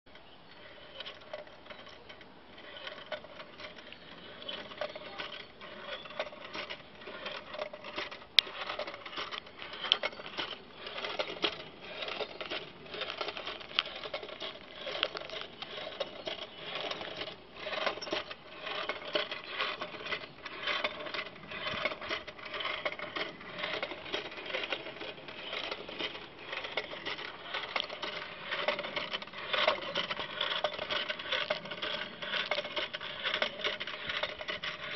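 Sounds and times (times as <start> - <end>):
hand crank mechanism rattling: 0.1 - 34.9.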